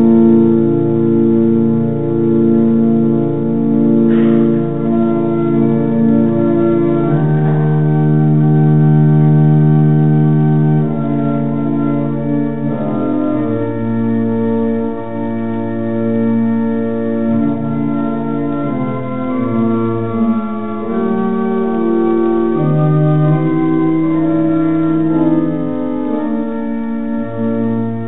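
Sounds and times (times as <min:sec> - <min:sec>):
organ playing sustained chords: 0:00.0 - 0:28.0.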